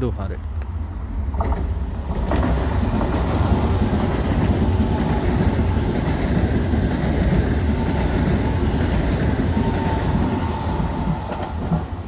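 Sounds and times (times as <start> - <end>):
train wheels rumbling on rails: 0.4 - 12.0.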